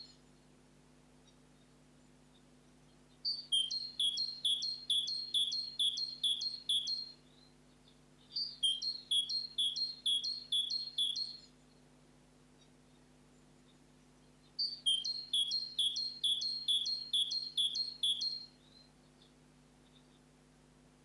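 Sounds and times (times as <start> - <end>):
songbird singing: 0.0 - 20.4.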